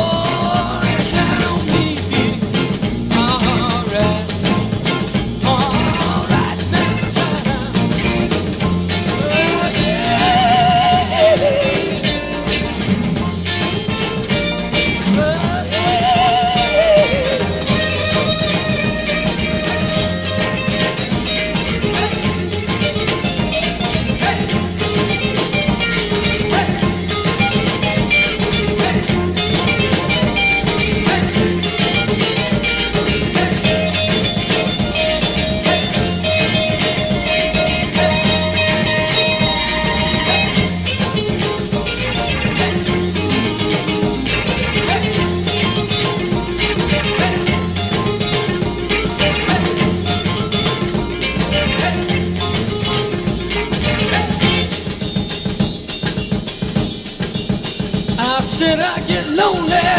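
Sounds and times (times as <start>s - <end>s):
high bending lead line: 0.0s - 55.4s
rock band playing steady beat: 0.0s - 59.9s.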